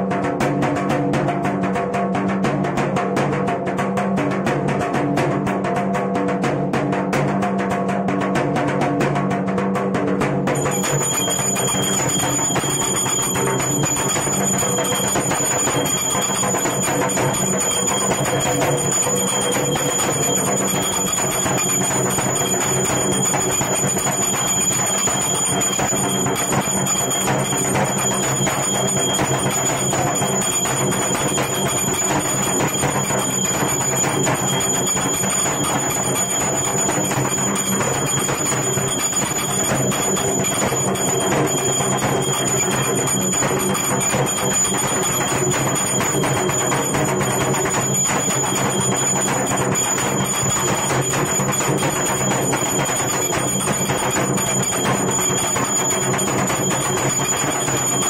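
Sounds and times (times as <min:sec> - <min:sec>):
brass hand bell ringing: 0:10.6 - 0:58.0.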